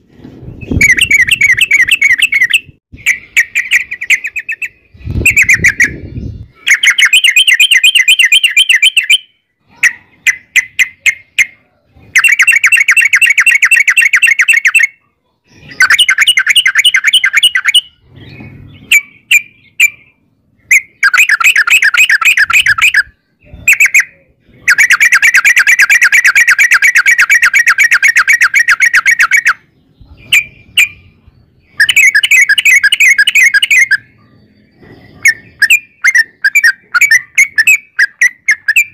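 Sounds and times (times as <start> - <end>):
bird singing rolling trills: 0.0 - 38.9.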